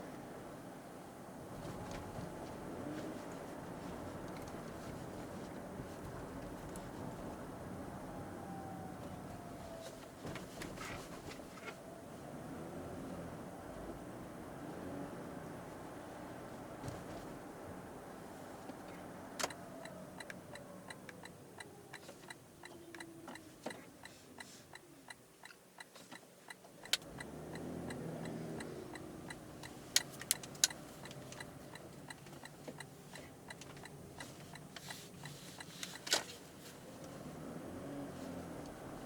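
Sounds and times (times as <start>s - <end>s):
low road and drive rumble: 0.0s - 39.0s.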